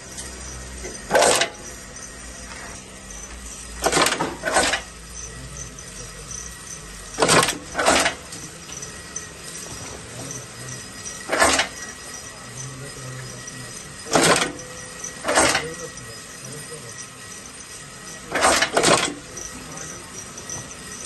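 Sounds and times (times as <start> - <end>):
low machine hum: 0.0 - 21.0
machine sharp strokes: 0.0 - 21.0.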